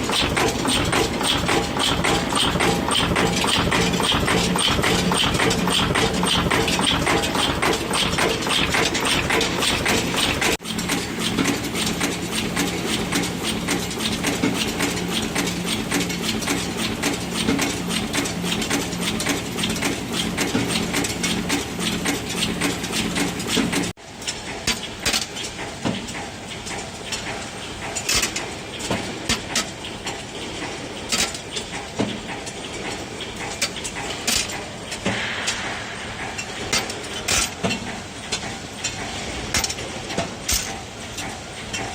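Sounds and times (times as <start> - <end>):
machine clattering: 0.0 - 41.9
machine knocks and clicks: 0.0 - 41.9.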